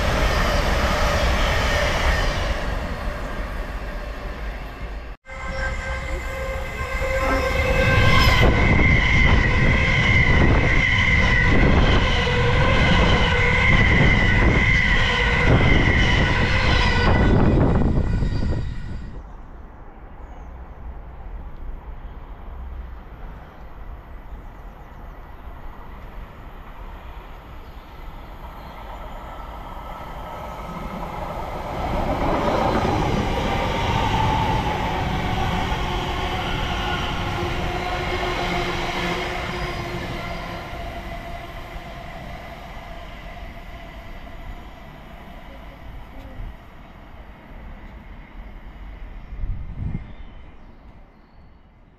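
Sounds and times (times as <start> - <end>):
train passing rumble: 0.0 - 51.1.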